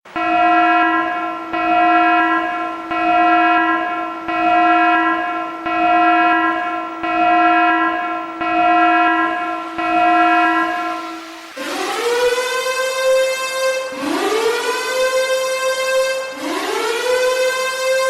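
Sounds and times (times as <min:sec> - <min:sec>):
alarm horn pulsing tone: 0:00.1 - 0:18.0.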